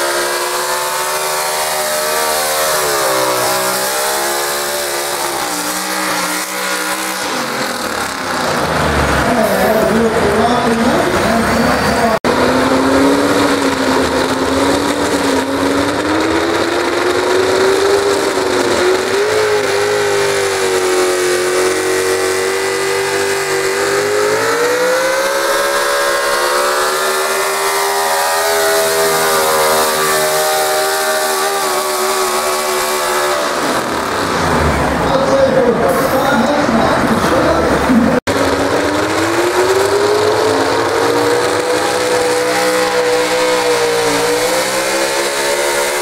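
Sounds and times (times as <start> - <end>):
truck engine at high revs: 0.0 - 46.0.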